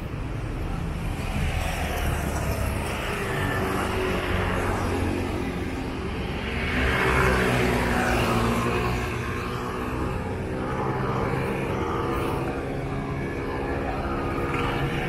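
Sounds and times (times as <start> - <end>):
vehicles passing on road: 0.0 - 15.0.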